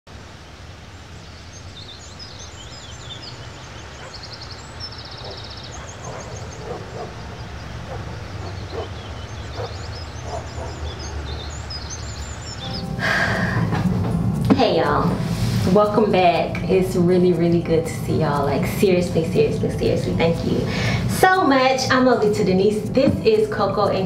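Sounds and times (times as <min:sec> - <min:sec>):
small birds chirping and trilling: 0:00.2 - 0:13.2, 0:17.2 - 0:24.0
steady low hum: 0:03.0 - 0:24.0.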